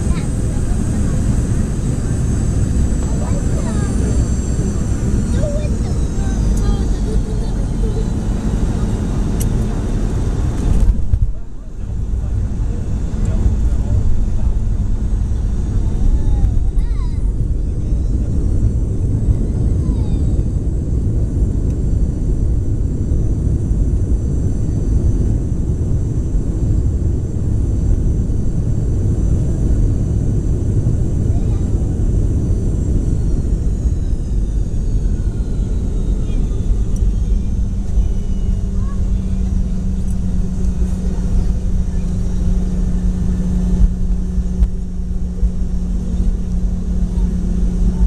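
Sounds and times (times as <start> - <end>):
aircraft cabin rumble: 0.0 - 48.0
jet engine whine: 0.0 - 48.0.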